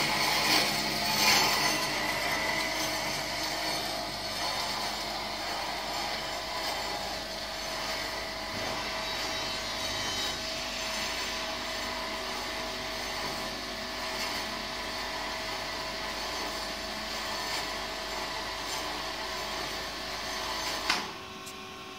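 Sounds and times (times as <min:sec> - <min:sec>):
band saw cutting metal: 0:00.0 - 0:21.2.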